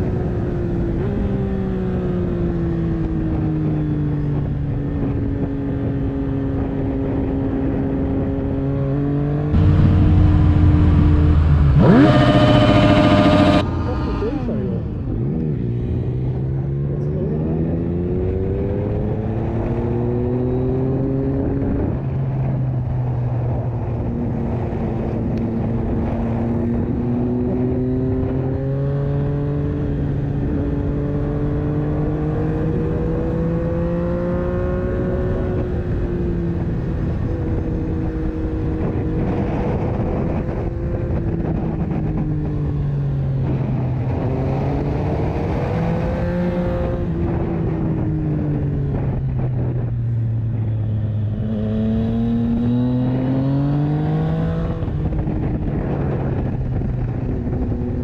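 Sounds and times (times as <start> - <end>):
motorcycle engine riding: 0.0 - 58.0.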